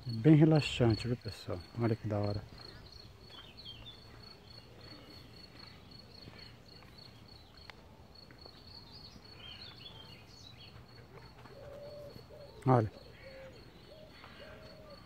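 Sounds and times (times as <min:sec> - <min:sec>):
cricket chirping: 0:00.0 - 0:15.0
soft bird chirps: 0:00.1 - 0:15.0.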